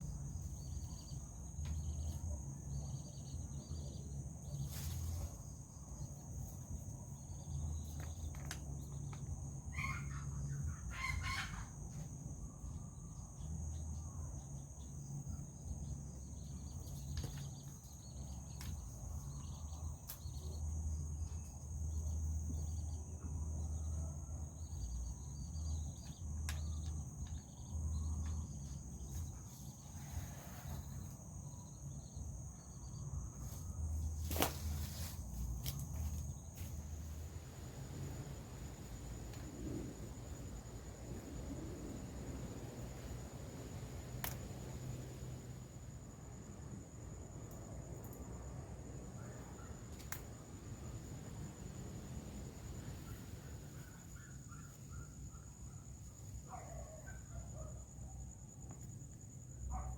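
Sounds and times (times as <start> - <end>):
crickets droning: 0.0 - 59.9.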